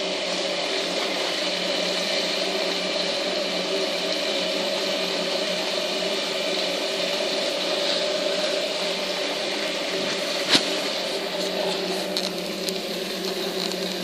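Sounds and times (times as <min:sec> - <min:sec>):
mechanical whirring hum: 0:00.0 - 0:14.0.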